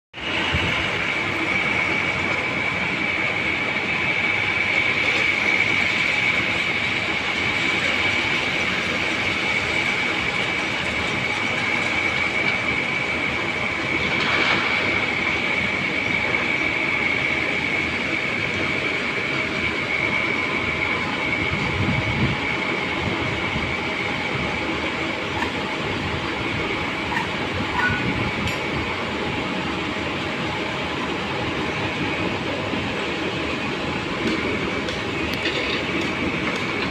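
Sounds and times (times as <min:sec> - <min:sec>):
high-pitched whine: 0:00.2 - 0:36.9.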